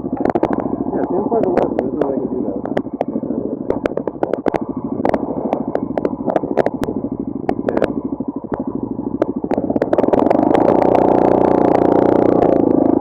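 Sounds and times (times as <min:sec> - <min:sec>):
wind and road noise rumble: 0:00.0 - 0:13.0
sharp clicks: 0:00.1 - 0:13.0.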